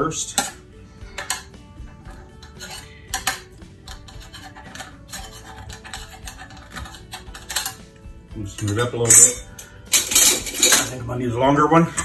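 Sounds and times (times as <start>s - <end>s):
soft background music: 0.0s - 12.0s
metal utensil scraping skillet: 0.2s - 11.0s.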